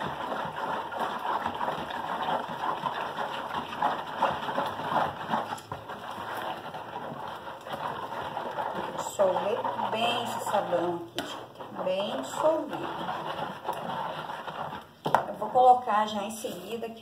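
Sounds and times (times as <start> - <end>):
spatula swishing water in bowl: 0.0 - 17.0.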